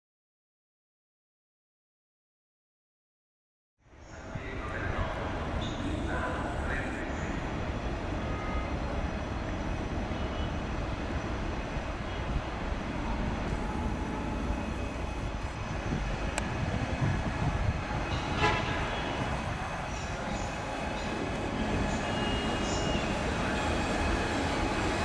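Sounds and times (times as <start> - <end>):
electric train rumbling: 4.0 - 25.0.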